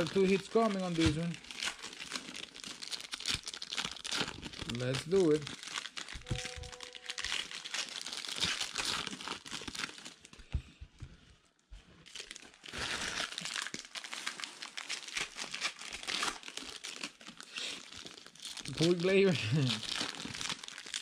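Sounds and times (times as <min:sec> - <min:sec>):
foil wrappers crinkling: 0:00.0 - 0:10.5, 0:12.0 - 0:21.0.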